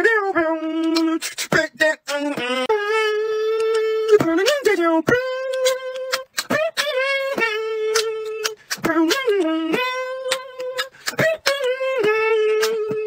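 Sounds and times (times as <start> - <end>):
beatbox mouth percussion: 0.0 - 13.0.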